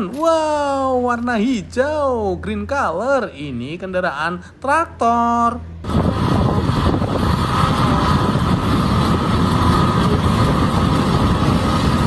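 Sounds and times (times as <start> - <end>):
heavy engine rumbling: 0.0 - 12.0.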